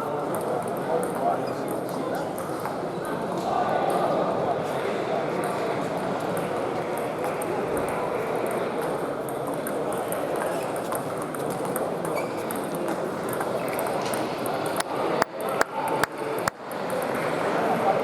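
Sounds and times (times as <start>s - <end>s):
crowd hubbub: 0.0s - 18.0s.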